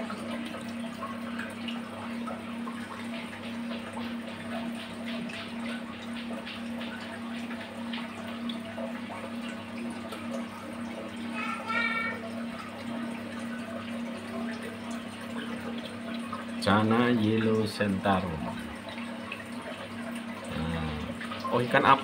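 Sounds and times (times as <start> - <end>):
pump humming: 0.0 - 22.0
water trickling and splashing: 0.0 - 22.0.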